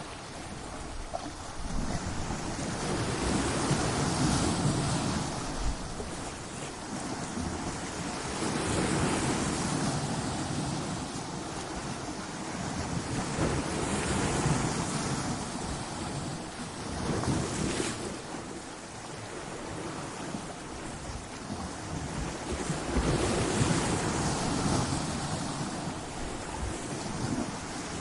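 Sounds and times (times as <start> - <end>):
waves breaking on rocks: 0.0 - 28.0.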